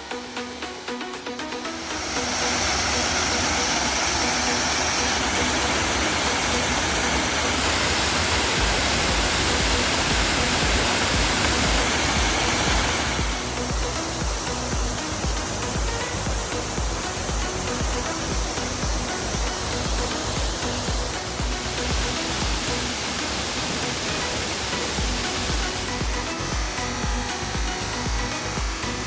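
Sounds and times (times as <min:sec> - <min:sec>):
background music: 0:00.0 - 0:29.0
waterfall rushing: 0:00.0 - 0:29.0.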